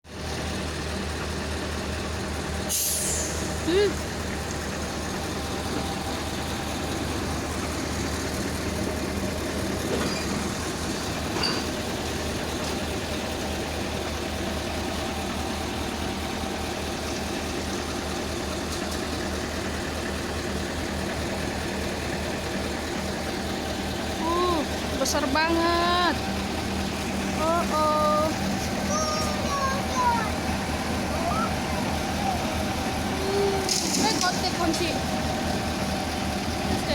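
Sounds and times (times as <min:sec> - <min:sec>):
truck diesel engine idling: 0:00.0 - 0:36.9.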